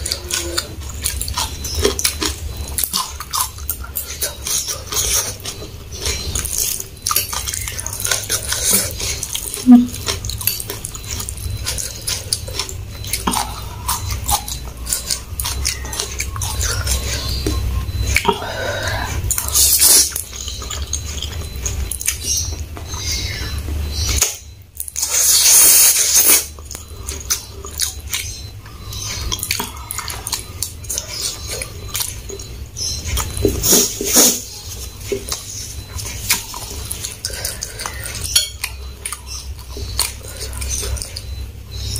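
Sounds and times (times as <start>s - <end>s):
chewing and slurping noodles: 0.0s - 41.9s.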